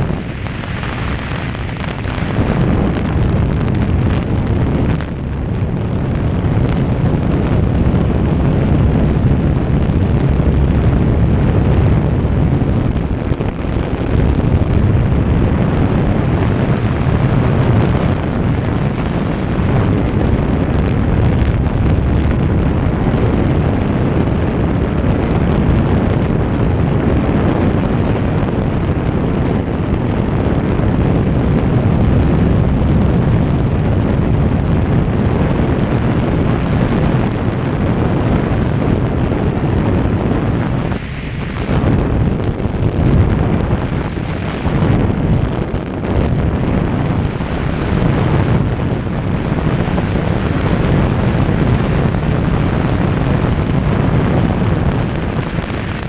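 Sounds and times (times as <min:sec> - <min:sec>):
jet boat rushing at speed: 0:00.0 - 0:56.0
wind buffeting microphone: 0:00.0 - 0:56.0.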